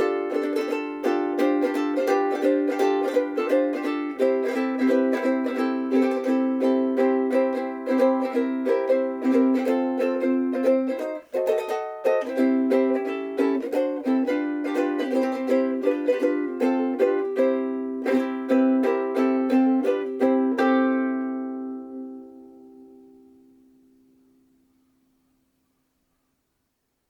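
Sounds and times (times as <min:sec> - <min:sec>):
strummed ukulele chords: 0:00.0 - 0:25.4
ukulele melody: 0:00.0 - 0:25.7.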